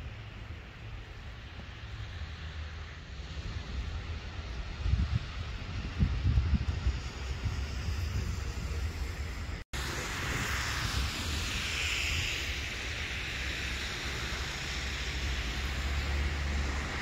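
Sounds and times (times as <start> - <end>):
wind buffeting microphone: 3.0 - 17.0.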